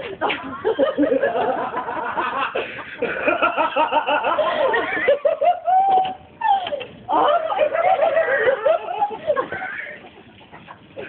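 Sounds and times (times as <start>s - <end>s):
people laughing hard: 0.0s - 11.0s.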